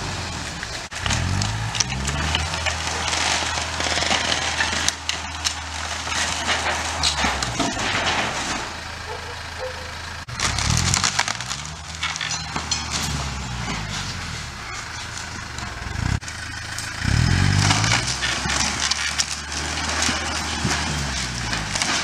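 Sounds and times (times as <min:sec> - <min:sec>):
wood cracking and splintering: 0:00.0 - 0:09.1, 0:10.0 - 0:22.0
tractor engine revving: 0:00.0 - 0:22.0.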